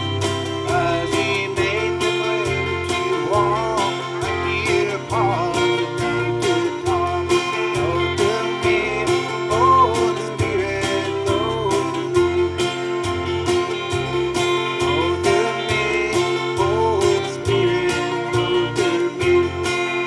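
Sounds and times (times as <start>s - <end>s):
man singing: 0.0s - 13.1s, 14.3s - 20.0s
acoustic guitar strumming: 0.0s - 20.0s
bass line: 0.0s - 20.0s.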